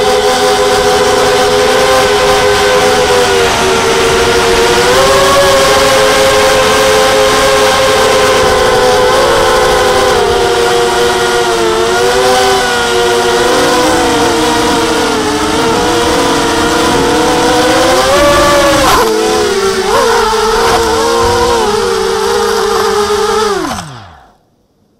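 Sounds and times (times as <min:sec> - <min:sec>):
drone motors and propellers whining: 0:00.0 - 0:24.5.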